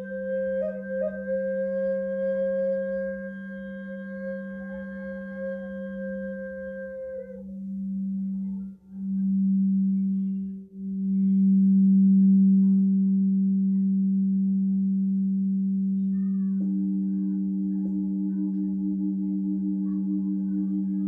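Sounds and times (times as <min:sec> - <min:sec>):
singing bowl low hum: 0:00.0 - 0:21.0.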